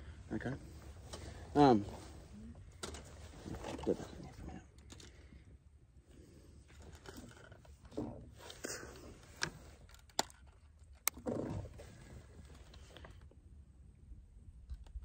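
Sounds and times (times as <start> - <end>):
fishing tackle rustling: 0.6 - 5.5, 6.1 - 13.3.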